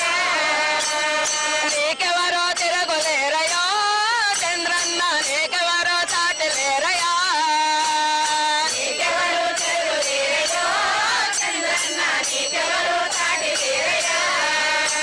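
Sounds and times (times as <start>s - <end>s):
women singing together: 0.0s - 15.0s
hand cymbals clinking: 0.6s - 15.0s.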